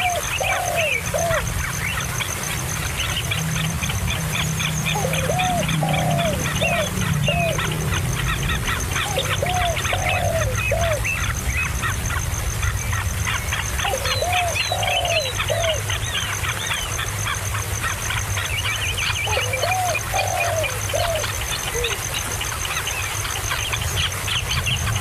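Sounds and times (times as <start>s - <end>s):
rapid high bird chirping: 0.0s - 25.0s.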